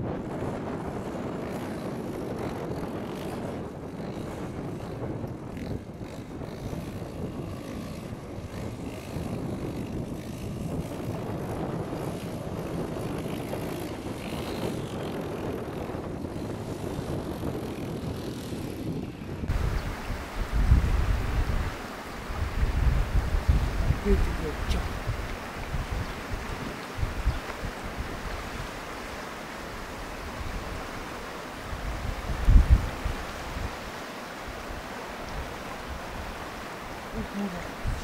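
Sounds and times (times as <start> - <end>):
wind rumbling on microphone: 0.0 - 38.0.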